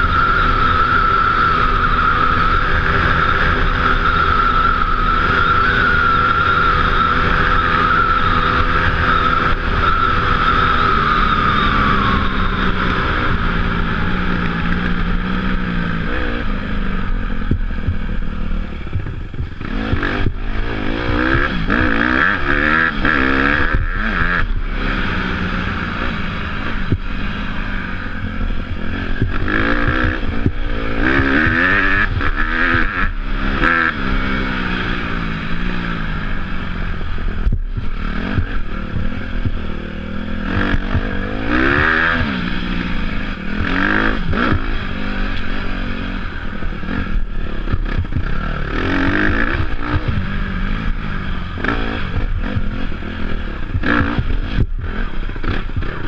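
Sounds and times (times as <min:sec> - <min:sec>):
motorcycle engine revving: 0:00.0 - 0:56.0
motorcycle rattling: 0:00.0 - 0:56.0
wind rushing over microphone: 0:00.0 - 0:56.0.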